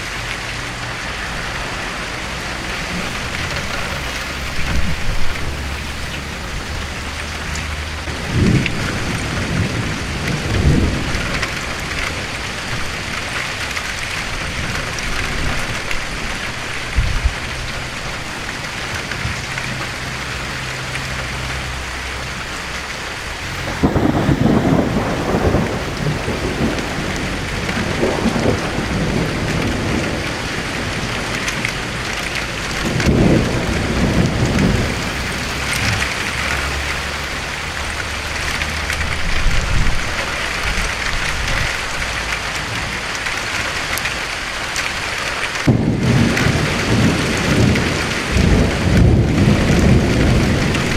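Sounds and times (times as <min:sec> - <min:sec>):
thunder rumbling: 0:00.0 - 0:45.0, 0:45.6 - 0:50.9
rain hiss: 0:00.0 - 0:50.9
thunder crack: 0:01.1 - 0:41.8, 0:45.6 - 0:50.9.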